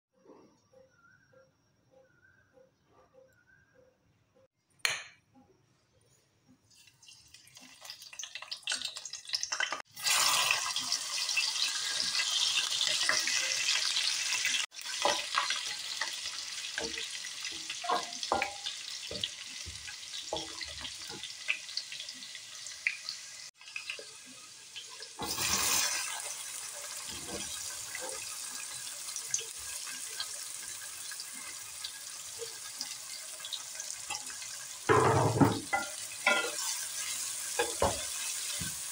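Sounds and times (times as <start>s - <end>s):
hot oil sizzling: 6.7s - 38.9s.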